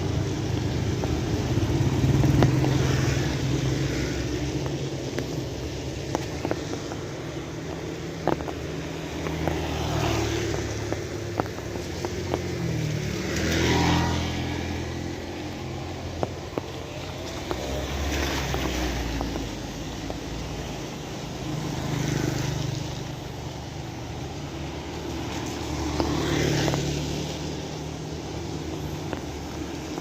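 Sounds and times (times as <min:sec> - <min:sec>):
sharp drips: 0:00.0 - 0:30.0
steady rain: 0:00.0 - 0:30.0
vehicles passing on wet road: 0:00.0 - 0:30.0.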